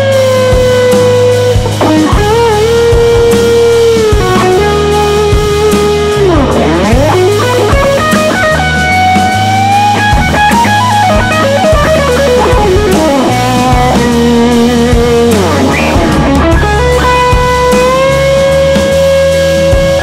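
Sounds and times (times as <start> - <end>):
bass and drums: 0.0 - 20.0
electric guitar solo: 0.0 - 20.0.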